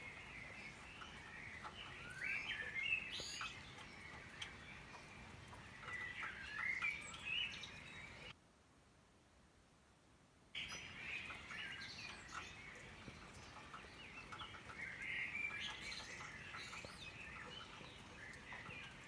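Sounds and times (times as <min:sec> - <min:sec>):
songbirds singing: 0:00.0 - 0:08.4, 0:10.6 - 0:19.0
faint steady hiss: 0:00.0 - 0:19.0.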